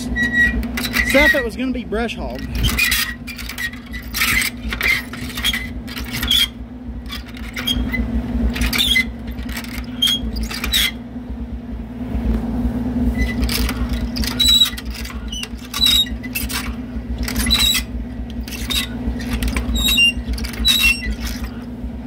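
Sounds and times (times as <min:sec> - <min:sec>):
hay rake squeaking and clattering: 0:00.0 - 0:11.1, 0:13.1 - 0:21.8
tractor engine running: 0:00.0 - 0:22.0.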